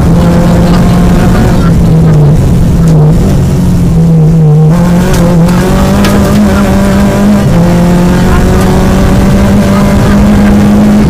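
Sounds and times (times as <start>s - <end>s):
car engine revving high: 0.0s - 11.0s.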